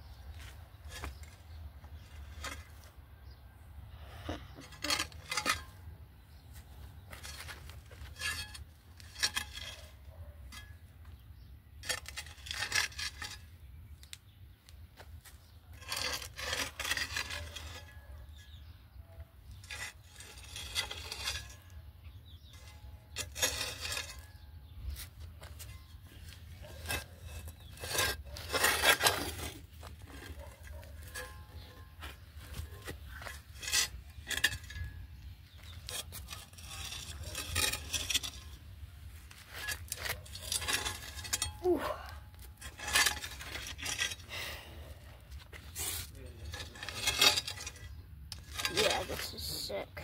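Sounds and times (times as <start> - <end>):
sandal scraping dirt: 0.3 - 3.4, 4.2 - 18.8, 19.4 - 50.0.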